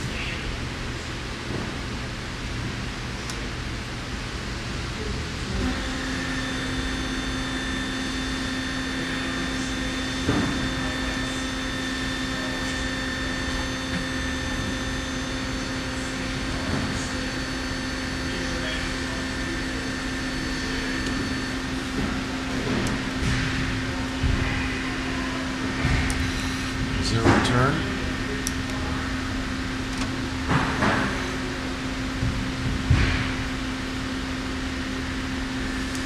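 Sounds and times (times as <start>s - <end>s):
lathe humming and whining: 0.0s - 36.0s.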